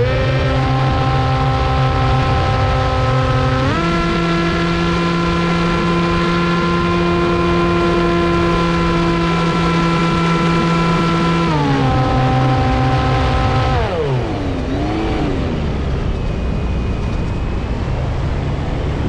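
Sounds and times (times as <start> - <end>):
electric motor and propeller whining: 0.0 - 19.0.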